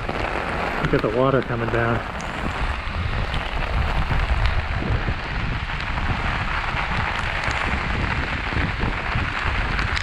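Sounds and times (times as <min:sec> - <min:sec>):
heavy rain pouring: 0:00.0 - 0:10.0
raindrop hits: 0:00.0 - 0:10.0
wind rumble on microphone: 0:00.0 - 0:10.0.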